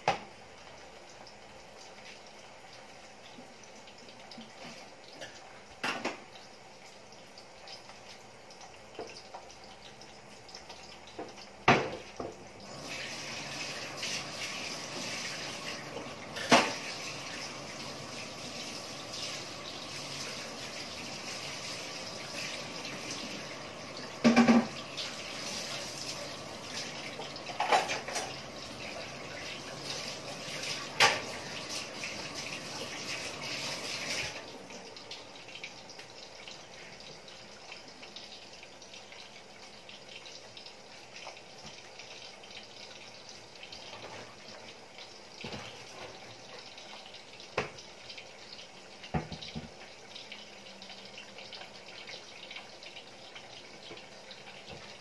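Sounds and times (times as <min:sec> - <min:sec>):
food simmering with bubbling hiss: 0:00.0 - 0:55.0.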